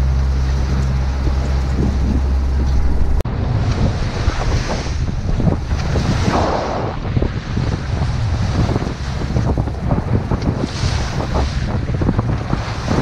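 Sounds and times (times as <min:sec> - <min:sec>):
steady low hum: 0:00.0 - 0:13.0
waves rushing along hull: 0:00.0 - 0:13.0
wind buffeting microphone: 0:00.0 - 0:13.0.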